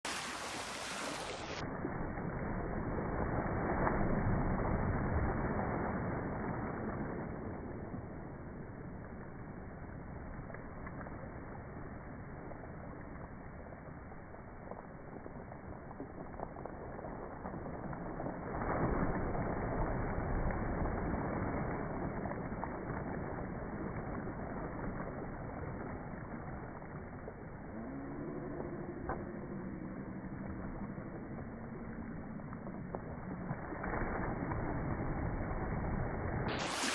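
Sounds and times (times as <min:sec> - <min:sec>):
sea water rushing: 0:00.0 - 0:09.7, 0:15.2 - 0:36.9
deep rumble: 0:00.0 - 0:36.9
wind: 0:00.0 - 0:36.9.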